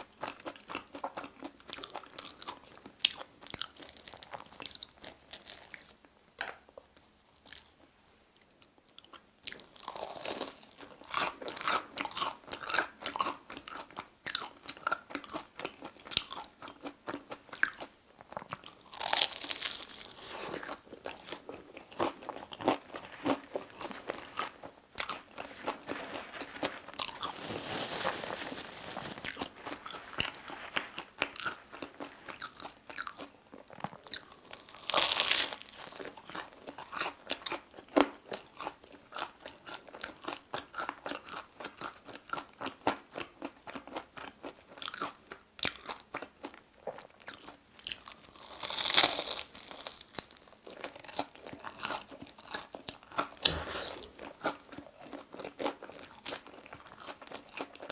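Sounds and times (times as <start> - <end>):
crunchy bites and chewing: 0.2 - 6.7, 9.0 - 28.4, 29.1 - 57.9.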